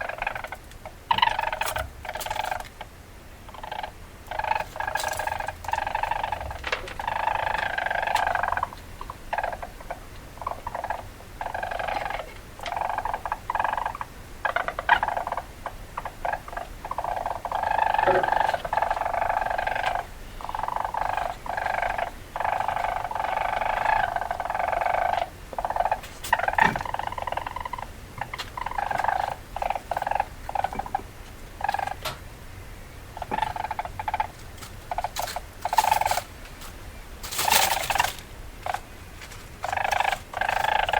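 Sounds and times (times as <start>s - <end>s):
weasel calling: 0.0s - 32.2s, 33.2s - 36.3s, 39.6s - 40.9s.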